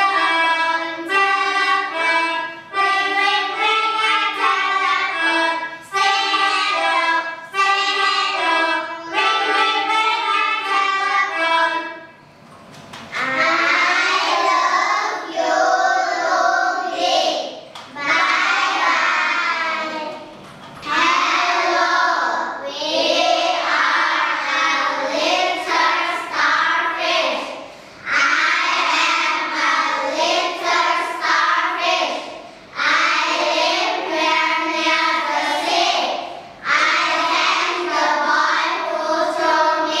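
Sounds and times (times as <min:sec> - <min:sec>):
children singing in unison: 0:00.0 - 0:12.1, 0:13.1 - 0:40.0.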